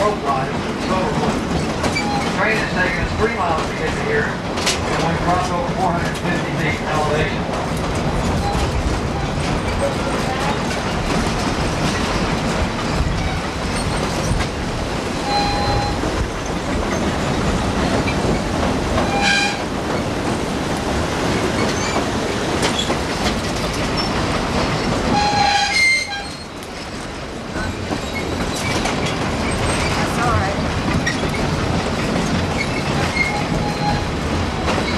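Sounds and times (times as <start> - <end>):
train rumble and rattle: 0.0 - 34.9.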